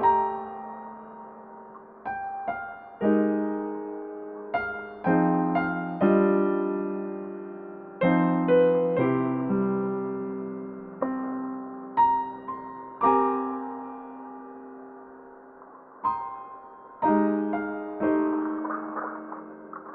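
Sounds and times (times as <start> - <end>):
gentle piano music: 0.0 - 19.9.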